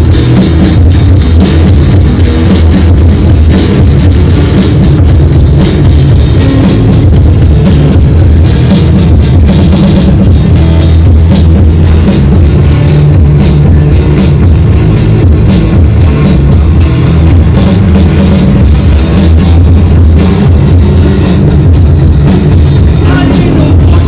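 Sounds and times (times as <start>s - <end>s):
live rock music: 0.0s - 24.0s.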